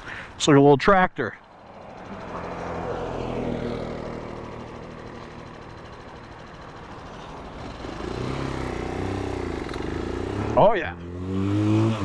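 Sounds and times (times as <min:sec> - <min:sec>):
motorcycle engine labouring: 0:01.3 - 0:12.0.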